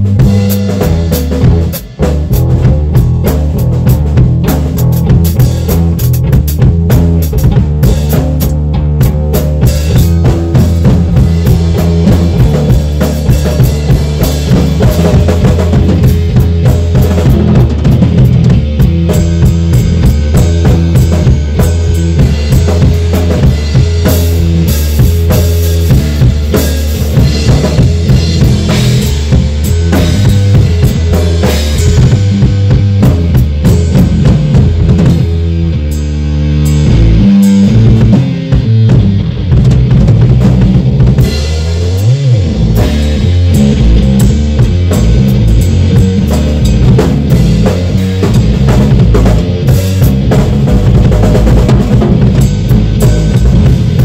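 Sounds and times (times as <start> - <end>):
drum kit groove: 0.0 - 54.0.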